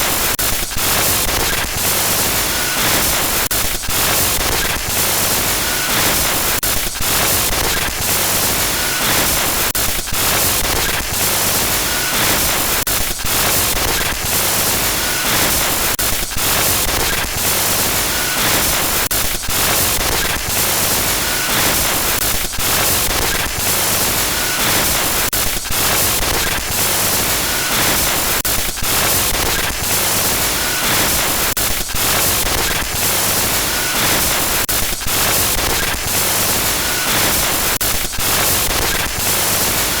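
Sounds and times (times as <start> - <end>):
harsh static hiss with crackles: 0.0 - 40.0.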